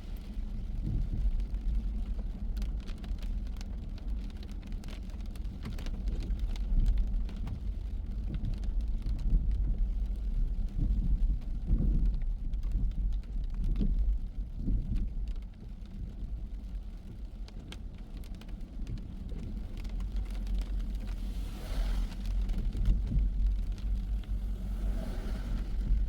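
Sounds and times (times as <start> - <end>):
car road rumble: 0.0 - 26.0
raindrop ticks: 0.1 - 21.2, 22.2 - 24.7.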